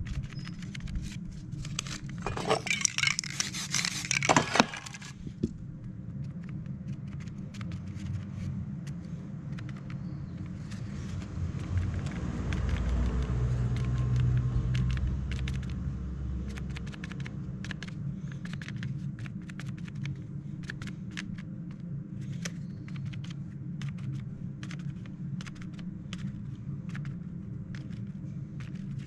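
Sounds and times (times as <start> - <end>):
steady low hum: 0.0 - 29.0
vehicle low rumble: 0.0 - 29.0.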